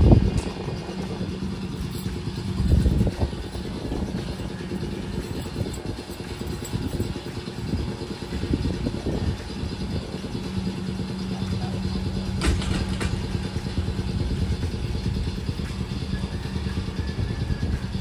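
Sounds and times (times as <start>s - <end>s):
low hum: 0.0s - 18.0s
streetcar rumble: 0.0s - 18.0s.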